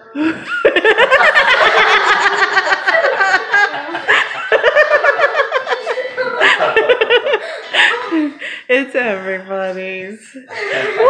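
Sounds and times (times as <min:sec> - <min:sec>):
people laughing: 0:00.2 - 0:08.7, 0:10.5 - 0:11.0.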